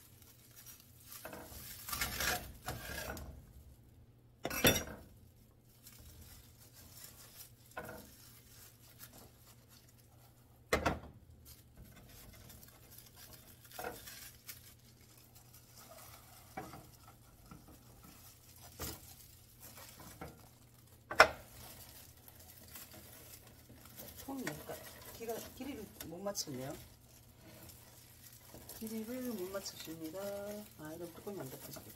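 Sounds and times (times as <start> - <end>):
seaweed sheets crinkling: 0.0 - 2.6, 5.2 - 10.4, 11.4 - 31.9.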